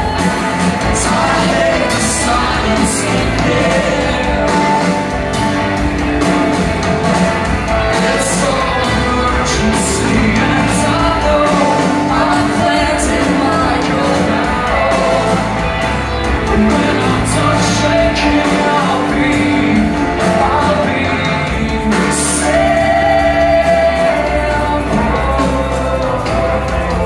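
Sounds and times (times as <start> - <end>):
lead vocal singing: 0.0 - 27.0
live rock band playing: 0.0 - 27.0.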